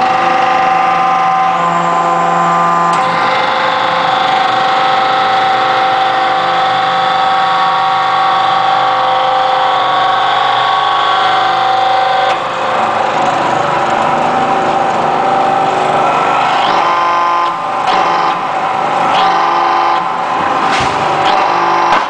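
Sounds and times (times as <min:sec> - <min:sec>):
hydraulic power unit whining: 0:00.0 - 0:22.0.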